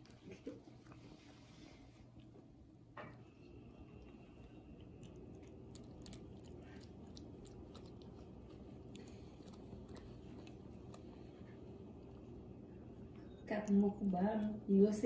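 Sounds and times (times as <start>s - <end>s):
cat licking and chewing paw: 0.0s - 15.0s.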